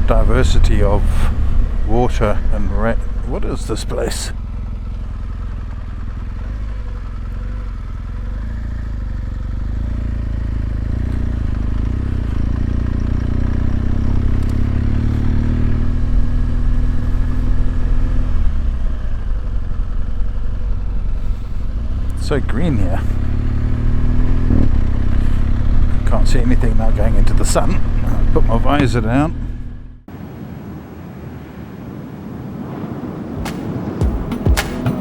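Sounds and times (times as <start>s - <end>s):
motorcycle engine running: 0.0s - 30.1s.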